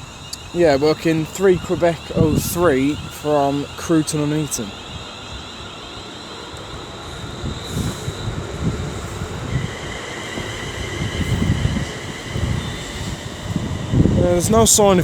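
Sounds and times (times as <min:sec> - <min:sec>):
electric train rumble: 0:00.0 - 0:15.0
high electric whine: 0:00.0 - 0:15.0.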